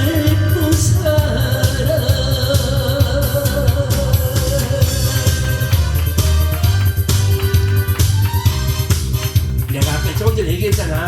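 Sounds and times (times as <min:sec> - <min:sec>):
backing music with drums and bass: 0:00.0 - 0:11.0.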